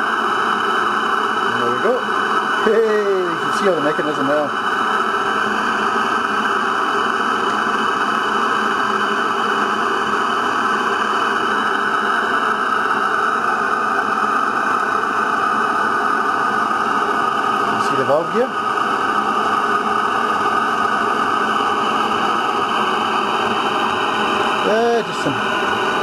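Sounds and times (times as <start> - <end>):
steam engine hissing: 0.0 - 26.0.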